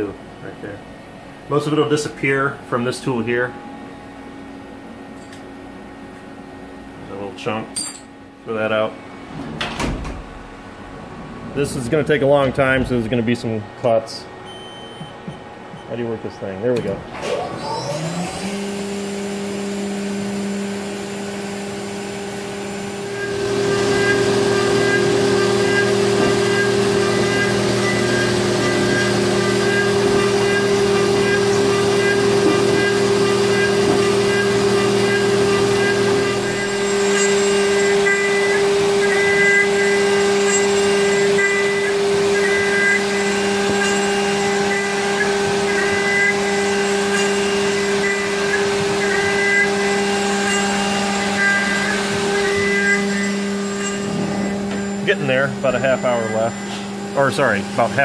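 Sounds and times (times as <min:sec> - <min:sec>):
milling machine spindle whining: 0:10.6 - 0:58.0.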